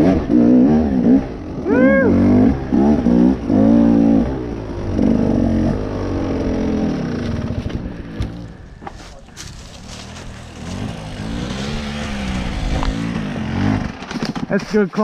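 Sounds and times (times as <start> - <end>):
off-road vehicle engine revving: 0.0 - 8.7, 9.4 - 14.8.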